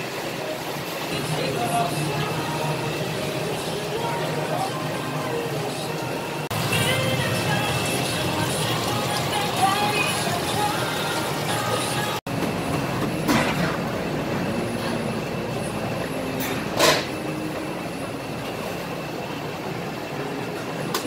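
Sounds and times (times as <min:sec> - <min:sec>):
kitchen equipment roaring: 0:00.0 - 0:21.0.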